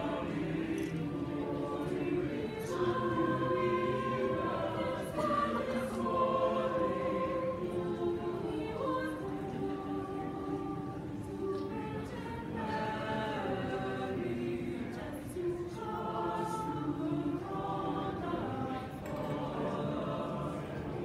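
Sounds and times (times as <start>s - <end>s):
mixed choir singing: 0.0s - 21.0s.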